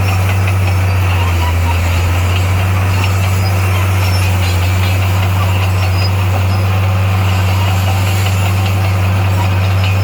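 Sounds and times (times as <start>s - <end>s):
heavy machine engine running: 0.0s - 10.0s.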